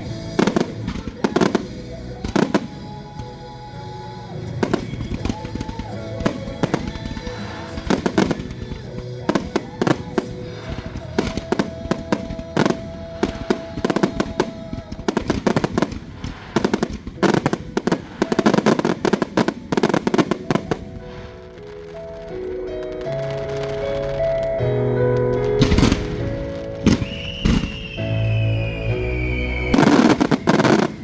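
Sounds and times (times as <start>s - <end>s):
fireworks bangs and crackles: 0.0s - 31.0s
music playing: 0.0s - 31.0s.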